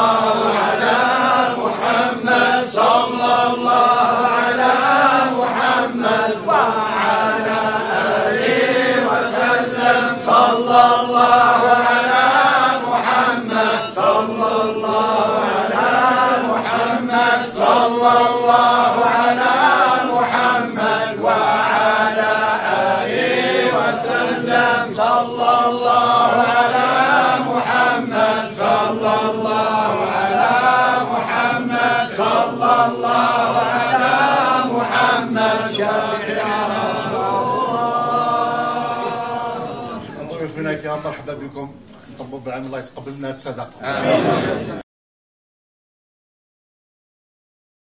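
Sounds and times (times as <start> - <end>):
men chanting in unison: 0.0 - 40.2.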